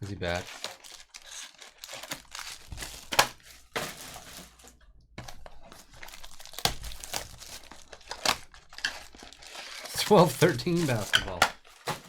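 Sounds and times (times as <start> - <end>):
wrappers crinkling and tearing: 0.0 - 12.0.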